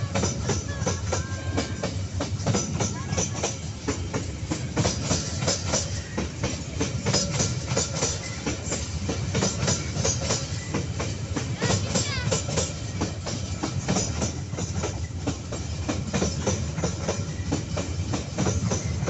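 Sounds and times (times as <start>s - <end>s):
train low rumble: 0.0s - 19.0s
train wheel squeal: 0.0s - 19.0s
train wheels clattering over rail joints: 0.0s - 19.0s.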